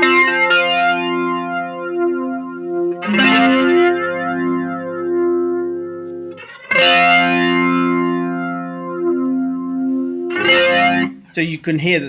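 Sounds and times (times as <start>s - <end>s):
electric guitar chord with flanger: 0.0s - 11.2s.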